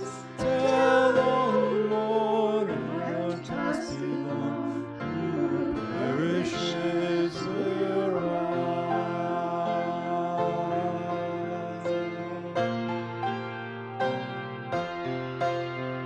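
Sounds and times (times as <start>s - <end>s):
man singing a hymn: 0.0s - 12.9s
piano chords: 0.0s - 16.0s.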